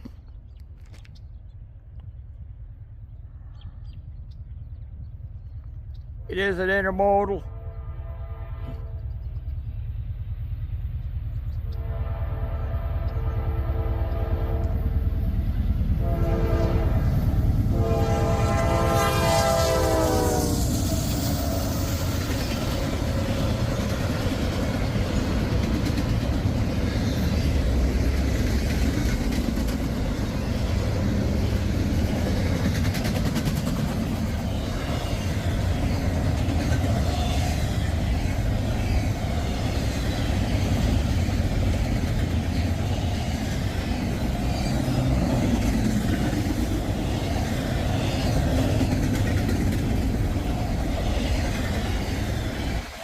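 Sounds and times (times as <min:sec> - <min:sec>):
freight train rolling past: 0:01.9 - 0:53.0.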